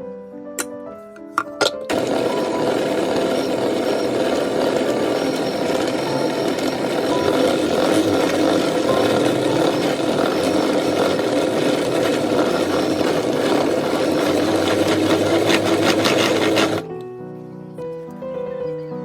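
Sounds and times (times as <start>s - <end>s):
rapid clicks: 1.4s - 17.0s
kitchen appliance motor running: 1.7s - 17.0s.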